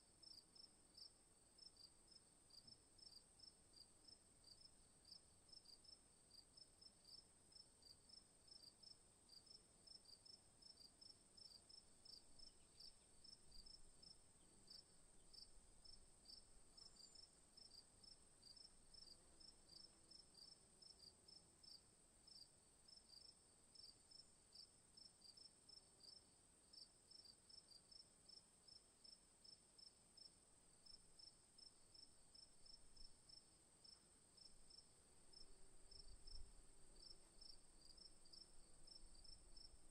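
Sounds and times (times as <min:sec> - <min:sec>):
crickets chirping: 0:07.0 - 0:39.9.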